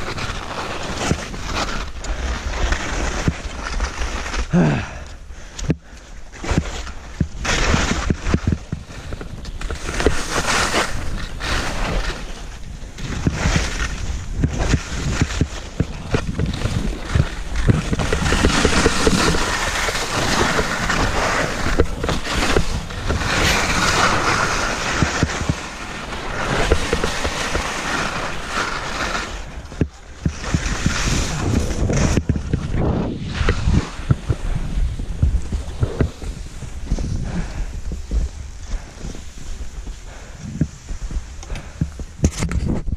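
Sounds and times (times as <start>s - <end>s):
skis scraping over snow: 0.0s - 42.9s
wind on microphone: 7.0s - 42.9s.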